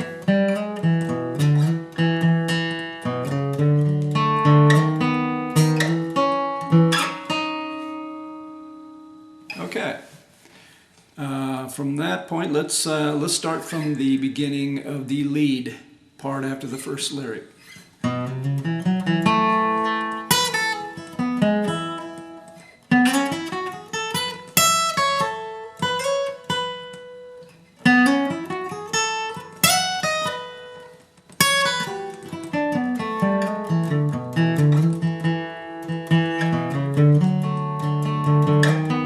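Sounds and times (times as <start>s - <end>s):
acoustic guitar bluegrass lead: 0.0s - 10.4s, 11.2s - 39.0s.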